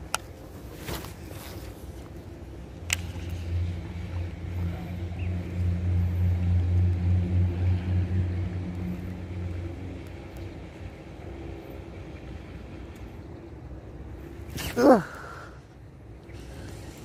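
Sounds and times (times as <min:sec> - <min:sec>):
engine droning low: 0:01.1 - 0:17.0.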